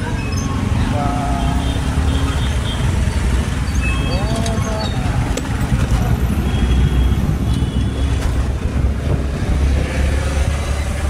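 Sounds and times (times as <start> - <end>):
motorbike engine and road rumble: 0.0 - 11.0
surrounding traffic noise: 0.0 - 11.0.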